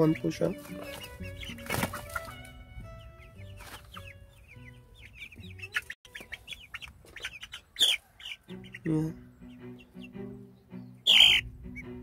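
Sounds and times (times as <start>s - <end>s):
chicks peeping and clucking: 0.0s - 12.0s.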